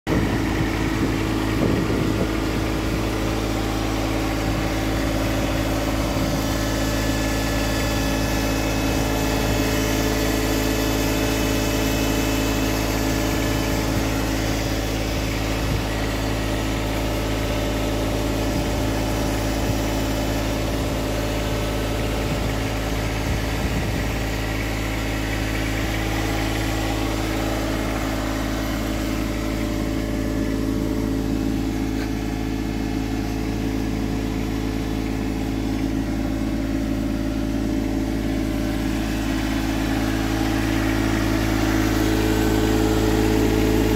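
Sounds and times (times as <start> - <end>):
diesel tractor engine idling: 0.1 - 43.9.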